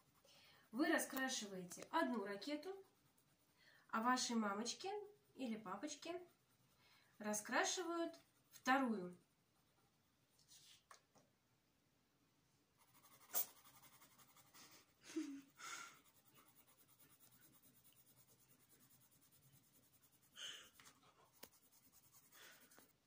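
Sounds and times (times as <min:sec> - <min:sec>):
pencil scratching on paper: 0:00.0 - 0:08.9, 0:12.8 - 0:23.0.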